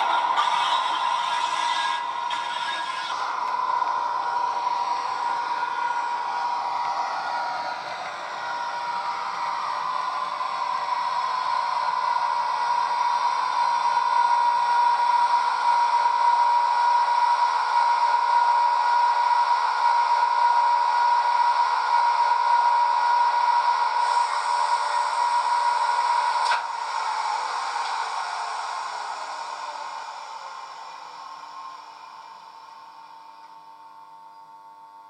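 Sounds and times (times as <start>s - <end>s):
electric locomotive whine with hiss: 0.0s - 35.0s.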